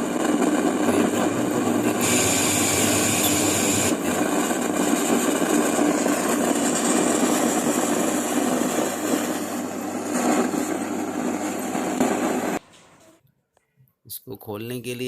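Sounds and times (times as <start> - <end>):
speaker hiss: 0.0 - 12.6.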